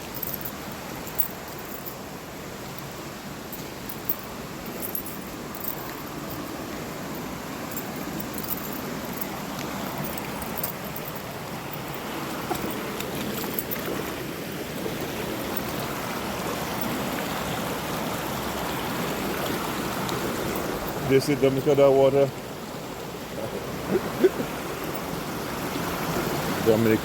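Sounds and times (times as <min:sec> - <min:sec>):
river running over rocks: 0:00.0 - 0:27.0.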